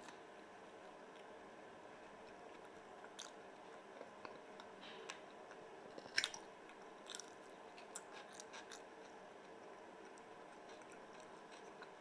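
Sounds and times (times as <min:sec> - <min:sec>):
man chewing wetly: 0:02.0 - 0:12.0.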